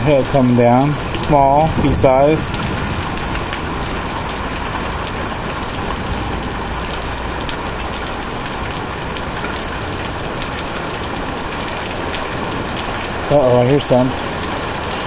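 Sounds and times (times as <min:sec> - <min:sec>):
hailstones ticking: 0:00.0 - 0:15.0
heavy rain hissing: 0:00.0 - 0:15.0.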